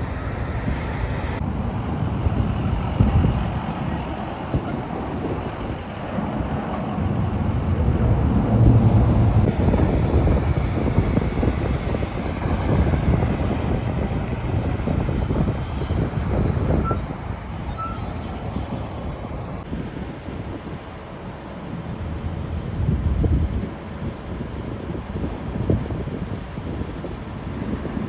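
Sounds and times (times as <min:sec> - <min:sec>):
road traffic noise: 0:00.0 - 0:28.0
truck diesel engine rumble: 0:00.0 - 0:28.0.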